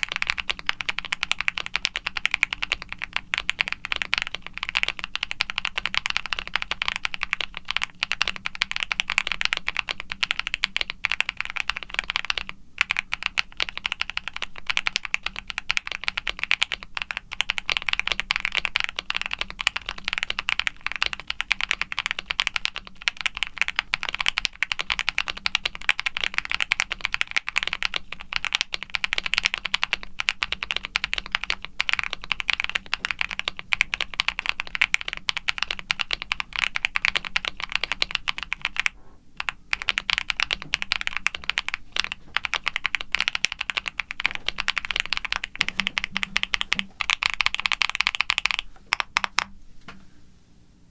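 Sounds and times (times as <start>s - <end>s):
fast typing on mechanical keyboard: 0.0s - 49.6s.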